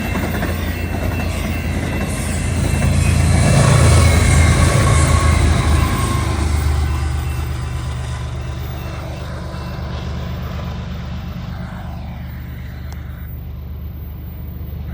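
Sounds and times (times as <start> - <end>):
freight train rumbling past: 0.0 - 14.9
train wheel noise: 0.0 - 14.9.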